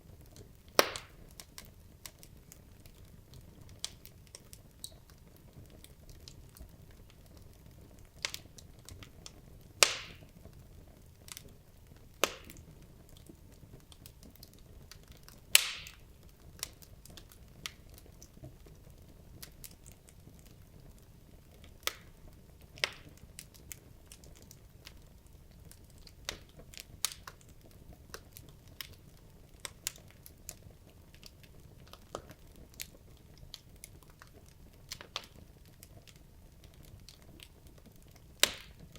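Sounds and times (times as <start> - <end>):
logs crackling in fireplace: 0.0 - 38.9.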